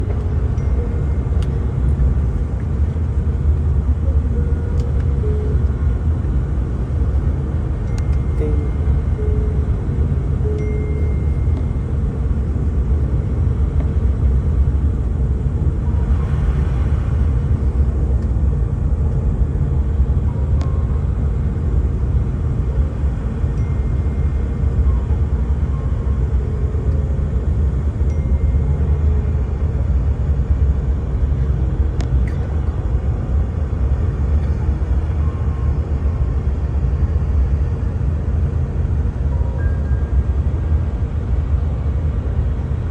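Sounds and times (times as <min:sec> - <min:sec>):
airliner rumble in flight: 0:00.0 - 0:42.9.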